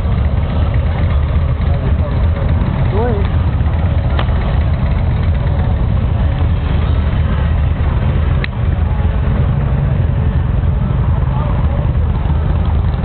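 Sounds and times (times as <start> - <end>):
motorcycle engines idling: 0.0 - 13.0.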